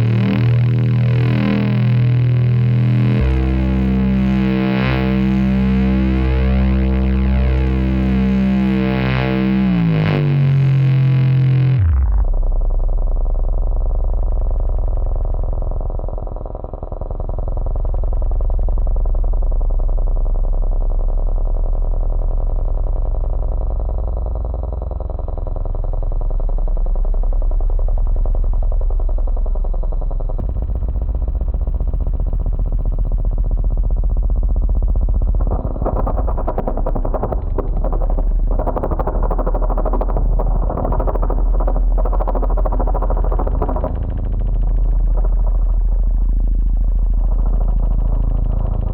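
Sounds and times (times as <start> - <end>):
low buzzing electronic drone: 0.0 - 48.9.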